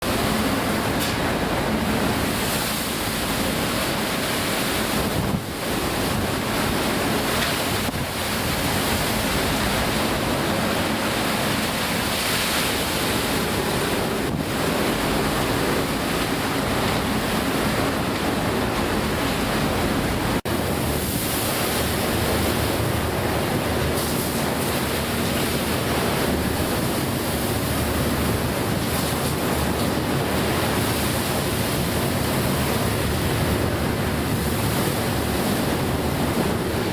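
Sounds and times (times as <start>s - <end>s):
heavy waves breaking: 0.0s - 36.9s
storm wind: 0.0s - 36.9s
wind buffeting microphone: 0.2s - 36.9s.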